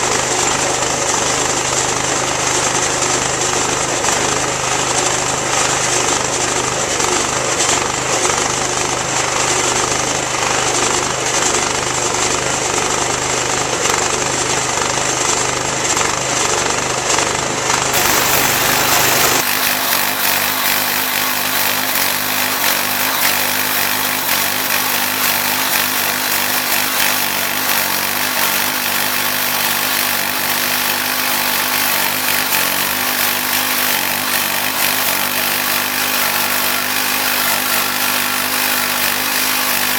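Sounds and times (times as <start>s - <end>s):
band sawmill sawing log: 0.0s - 39.9s.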